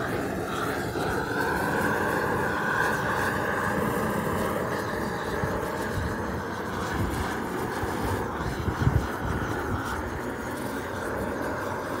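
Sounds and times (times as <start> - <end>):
gas torch roaring: 0.0 - 12.0.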